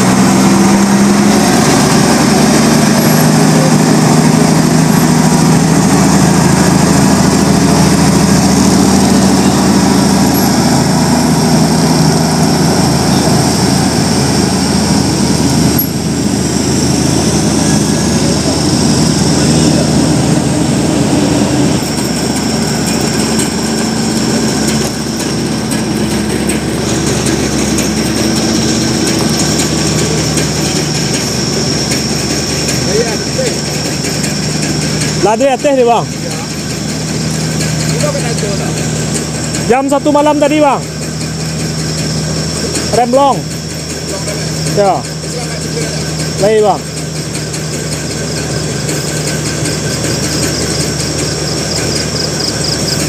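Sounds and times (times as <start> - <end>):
truck diesel engine labouring: 0.0 - 53.0.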